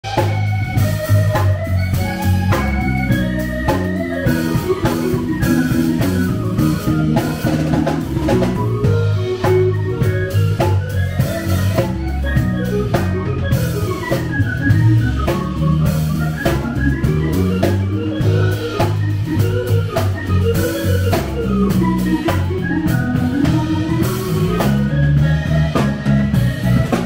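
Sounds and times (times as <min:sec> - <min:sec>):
drum kit beat: 0:00.0 - 0:27.0
organ playing chords and melody: 0:00.0 - 0:27.0.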